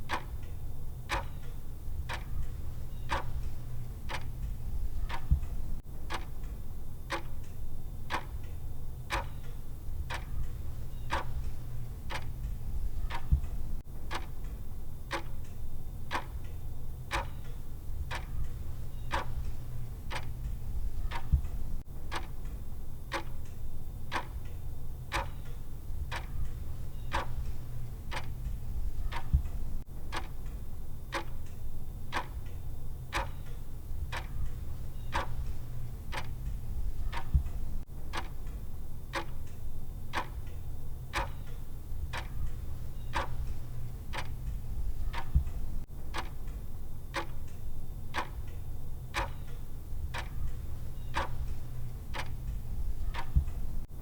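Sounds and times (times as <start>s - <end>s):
steady low hum: 0.0s - 54.0s
timer ticking: 0.0s - 54.0s.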